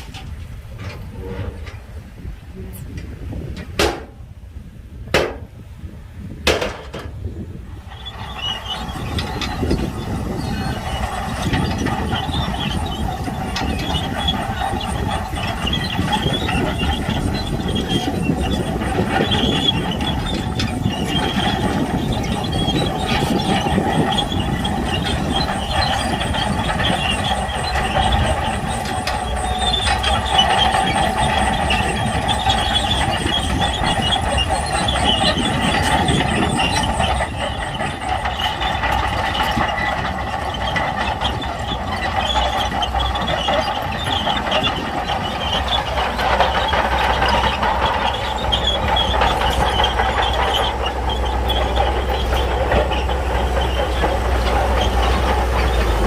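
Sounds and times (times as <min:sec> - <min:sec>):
diesel engine under load: 0:00.0 - 0:56.0
steel tracks squealing and clanking: 0:00.0 - 0:56.0.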